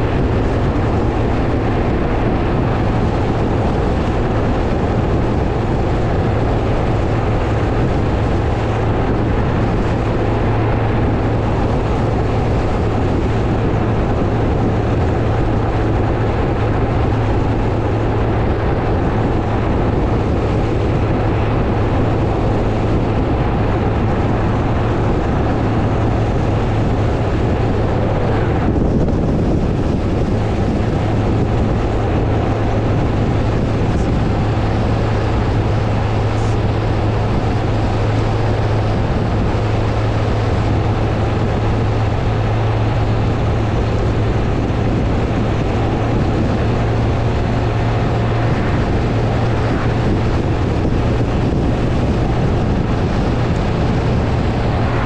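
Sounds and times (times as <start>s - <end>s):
constant low hum: 0.0s - 55.0s
vehicle driving on road: 0.0s - 55.0s.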